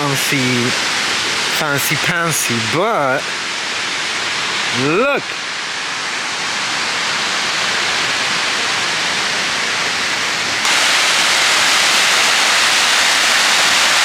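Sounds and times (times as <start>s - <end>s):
flowing water: 0.0s - 14.0s.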